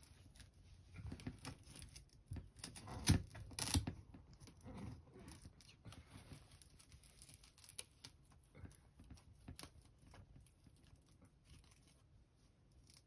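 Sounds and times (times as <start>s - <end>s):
small paws scratching: 0.0s - 13.0s.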